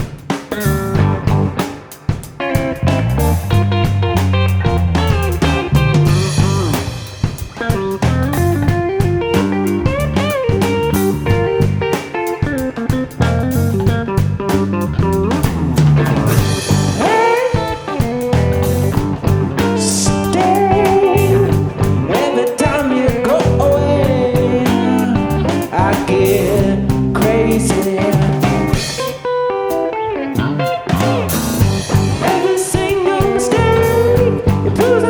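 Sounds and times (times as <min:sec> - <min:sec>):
rock band playing blues jam: 0:00.0 - 0:35.0
lead guitar bending notes: 0:00.5 - 0:35.0.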